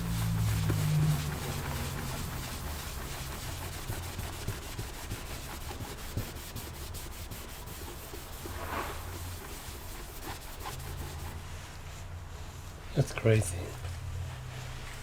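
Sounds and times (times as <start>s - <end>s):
cloth rubbing on casing: 0.0s - 13.6s.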